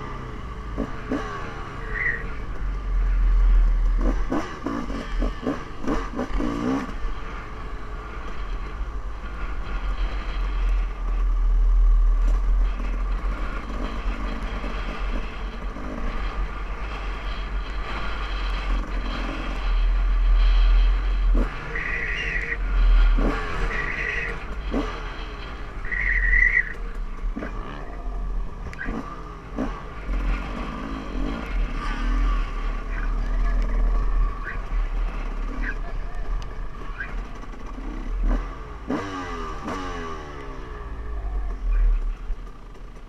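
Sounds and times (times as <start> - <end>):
dirt bike engine under throttle: 0.0 - 43.0
wind rumble on microphone: 2.3 - 38.6.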